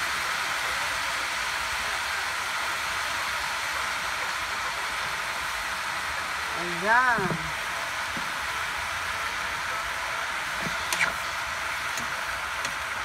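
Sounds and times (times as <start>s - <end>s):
eggplant frying in oil: 0.0s - 13.0s.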